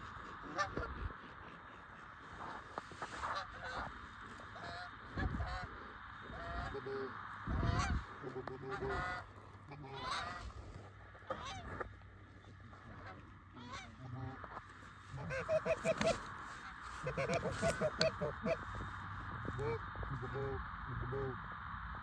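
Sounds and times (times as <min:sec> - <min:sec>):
geese honking and clucking: 0:00.0 - 0:22.0.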